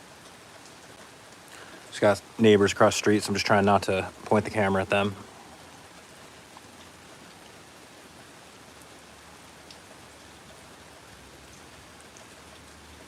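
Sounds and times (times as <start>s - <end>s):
raindrops tapping on surfaces: 0.0s - 13.0s
steady rain hiss: 0.0s - 13.0s.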